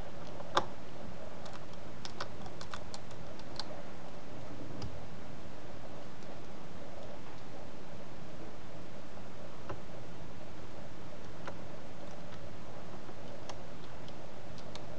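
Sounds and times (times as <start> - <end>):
steady background hiss: 0.0 - 14.9.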